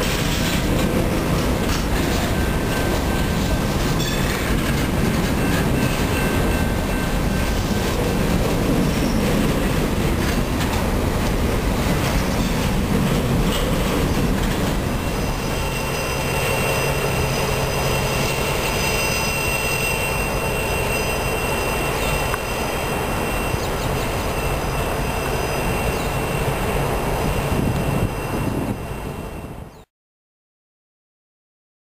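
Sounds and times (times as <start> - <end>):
train cars rumbling past: 0.0 - 29.9
wheels squealing on rails: 0.0 - 29.9.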